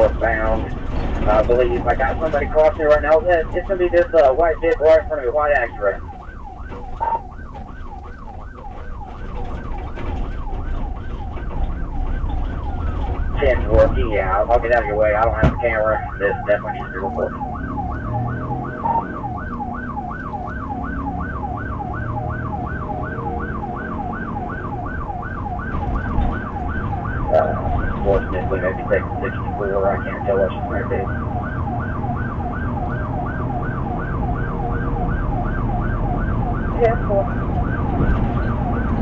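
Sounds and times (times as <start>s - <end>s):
car engine and road noise: 0.0s - 39.0s
police siren yelping: 0.0s - 39.0s.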